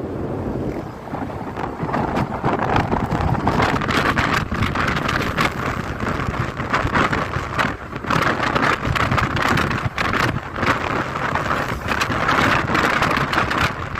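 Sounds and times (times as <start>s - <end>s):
moving vehicle rumble: 0.0s - 13.9s
wind buffeting microphone: 0.0s - 13.9s.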